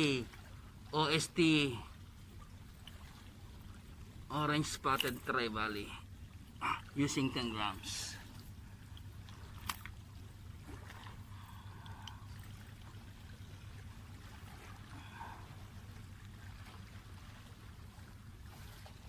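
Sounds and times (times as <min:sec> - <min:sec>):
steady low rumble: 0:00.0 - 0:19.0
water trickling and lapping: 0:00.0 - 0:19.0.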